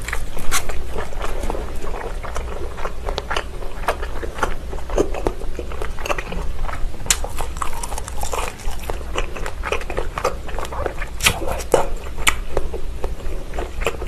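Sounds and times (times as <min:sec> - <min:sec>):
chewing with wet mouth smacks: 0:00.0 - 0:14.0.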